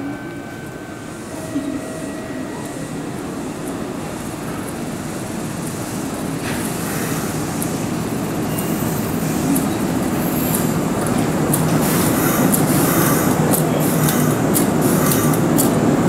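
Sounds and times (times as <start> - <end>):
electric train rumbling: 0.0 - 16.0
high train squeals: 0.0 - 16.0.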